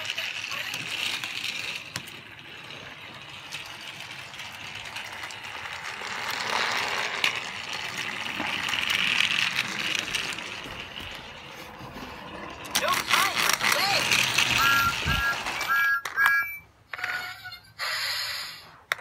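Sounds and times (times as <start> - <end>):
wheels clicking on plastic track: 0.0 - 17.5
toy train motor whirring: 0.0 - 19.0.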